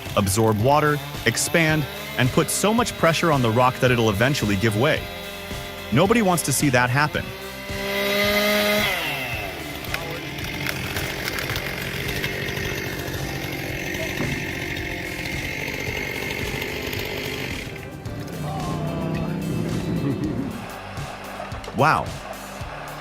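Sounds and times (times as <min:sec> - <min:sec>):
chainsaw sawing: 0:00.0 - 0:23.0.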